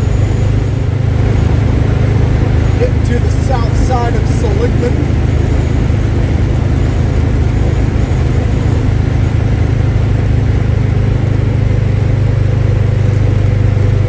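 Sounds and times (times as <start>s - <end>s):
car engine running: 0.0s - 14.0s
road noise inside car: 0.0s - 14.0s.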